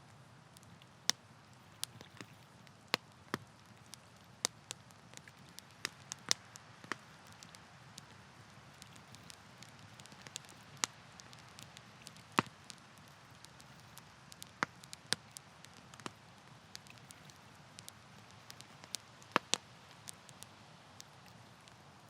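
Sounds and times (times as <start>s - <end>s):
campfire crackling: 0.0s - 22.0s
fire pops and snaps: 0.6s - 22.0s.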